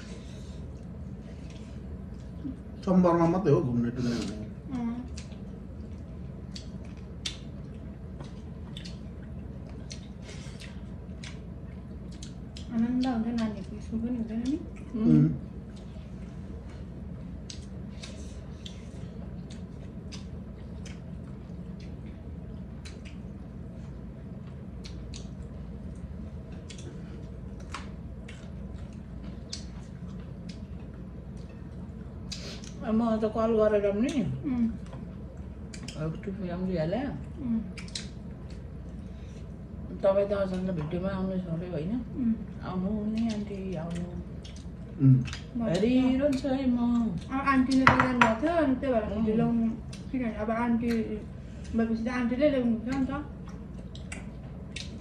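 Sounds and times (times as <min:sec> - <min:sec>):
steady low hum: 0:00.0 - 0:55.0
wet chewing and smacking: 0:00.6 - 0:02.9, 0:04.2 - 0:32.8, 0:34.0 - 0:36.3, 0:37.2 - 0:39.8, 0:42.9 - 0:47.8, 0:49.8 - 0:51.8, 0:52.8 - 0:55.0.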